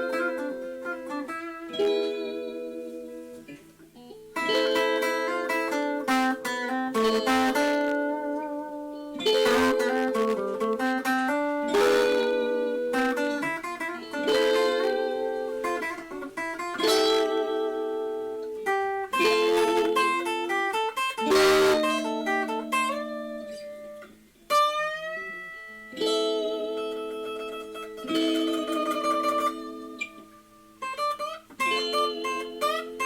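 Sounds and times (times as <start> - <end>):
solo guitar playing: 0.0 - 33.0.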